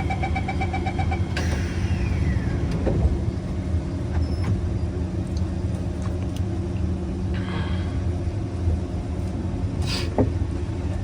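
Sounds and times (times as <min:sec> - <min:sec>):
train carriage rumble: 0:00.0 - 0:11.0.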